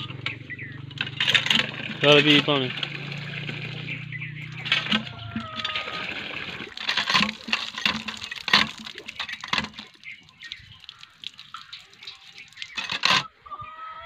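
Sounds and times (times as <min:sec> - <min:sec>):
hand pump metallic clanks: 0:00.1 - 0:13.3
water splashing from spout: 0:00.9 - 0:13.3.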